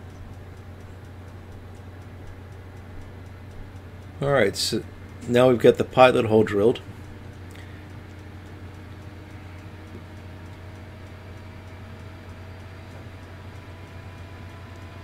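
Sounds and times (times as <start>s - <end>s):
faint steady tones: 0.0s - 15.0s
low electrical hum: 0.0s - 15.0s.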